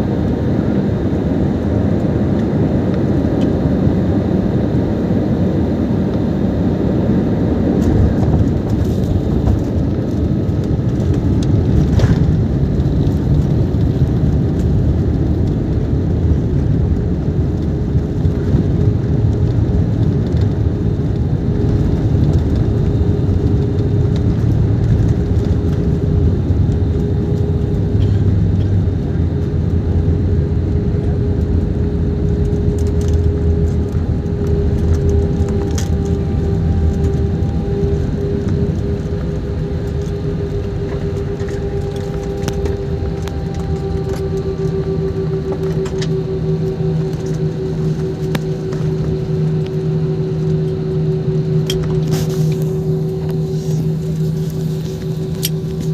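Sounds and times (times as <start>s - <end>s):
airplane cabin engine rumble: 0.0s - 55.9s
steady hum: 0.0s - 55.9s.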